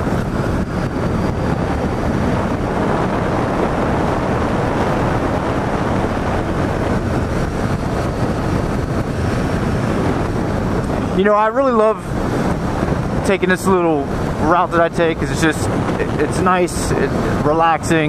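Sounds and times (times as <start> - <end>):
motorcycle running: 0.0 - 18.0
road noise: 0.0 - 18.0
wind rushing over microphone: 0.0 - 18.0.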